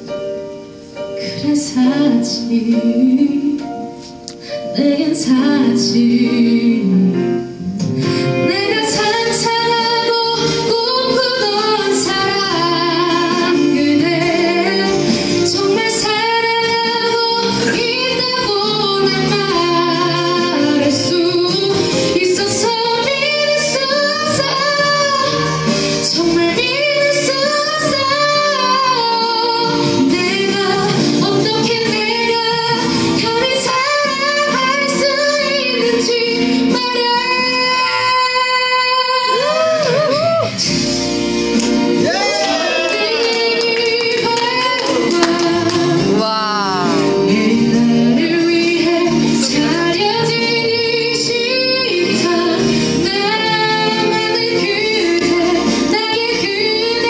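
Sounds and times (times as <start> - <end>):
instrumental accompaniment with guitar: 0.0 - 57.0
woman singing into microphone: 1.2 - 40.8, 42.0 - 57.0.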